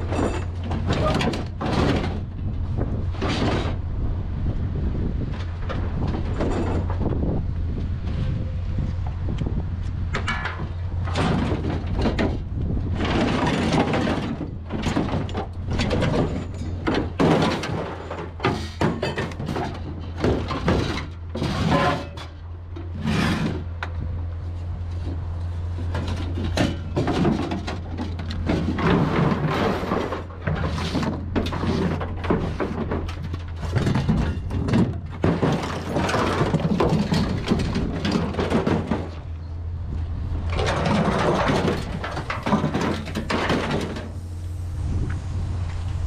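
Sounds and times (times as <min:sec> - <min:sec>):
scrap metal clattering and scraping: 0:00.0 - 0:04.0, 0:05.2 - 0:09.3, 0:10.0 - 0:39.5, 0:40.4 - 0:44.6
low engine hum: 0:00.0 - 0:21.6, 0:22.2 - 0:46.0.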